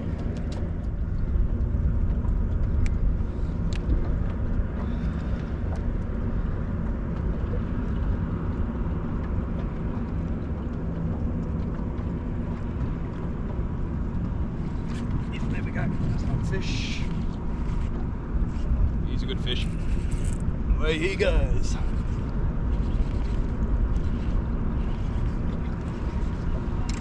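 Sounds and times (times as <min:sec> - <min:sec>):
boat motor rumbling: 0:00.0 - 0:27.0.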